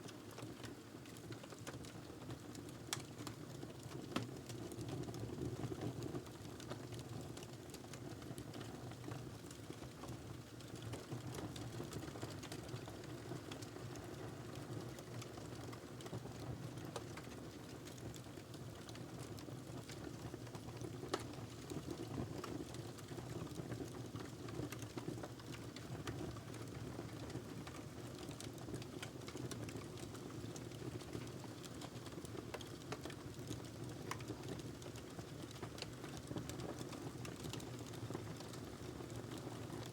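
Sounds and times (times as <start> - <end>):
wood fire crackling: 0.3 - 4.8, 6.2 - 39.9.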